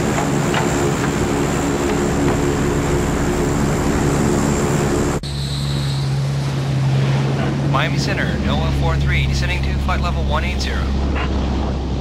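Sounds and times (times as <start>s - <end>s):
low steady drone: 0.0s - 12.0s
turboprop engines droning: 0.0s - 12.0s.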